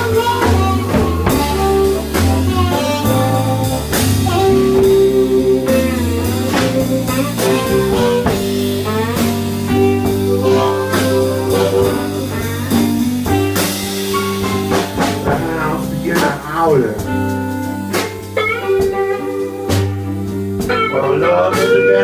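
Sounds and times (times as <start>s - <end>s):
drum kit: 0.0s - 22.0s
lead guitar with bent notes: 0.0s - 22.0s.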